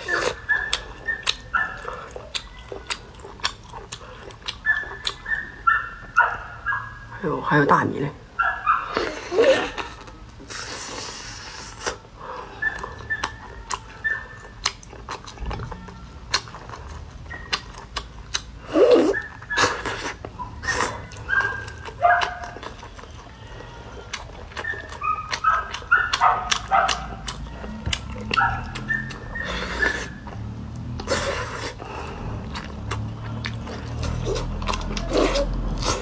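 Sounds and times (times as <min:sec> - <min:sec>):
chewing and mouth sounds: 0:00.0 - 0:06.2, 0:08.8 - 0:36.0.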